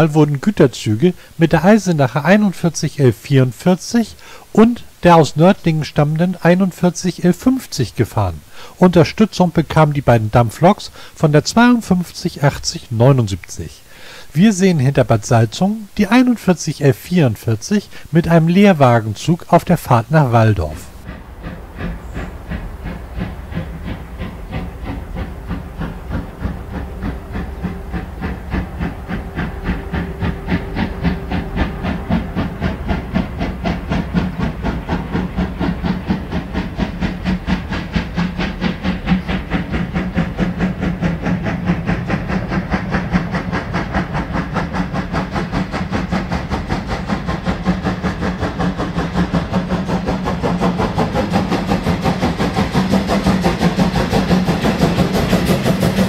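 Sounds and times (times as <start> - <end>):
steam hissing: 0.0 - 56.0
steam locomotive chuffing: 0.0 - 56.0.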